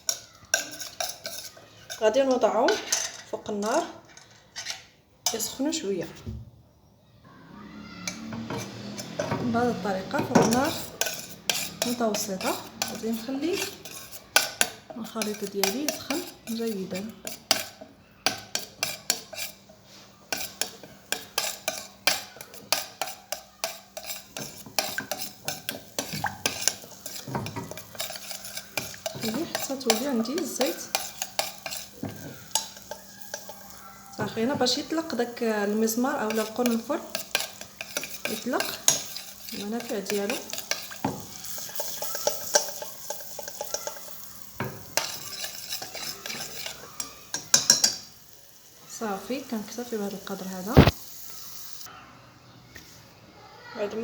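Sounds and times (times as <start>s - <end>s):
spoon stirring and scraping a pot: 0.0s - 6.3s, 8.0s - 51.8s
oil frying sizzle: 7.8s - 51.9s.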